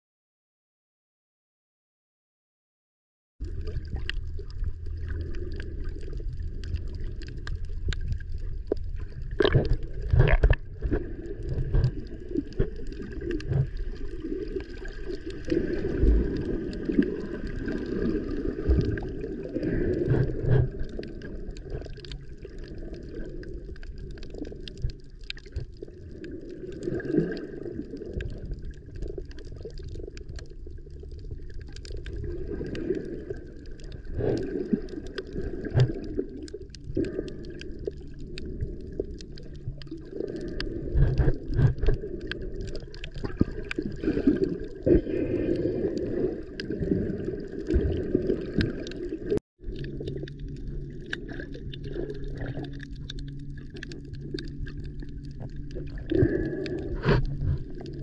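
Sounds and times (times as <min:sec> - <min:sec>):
underwater water gurgling: 0:03.4 - 0:58.0.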